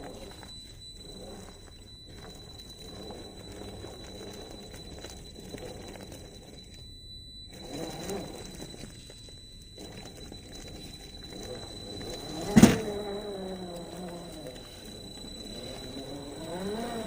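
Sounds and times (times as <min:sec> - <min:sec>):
rc car electric motor whining: 0:00.0 - 0:17.0.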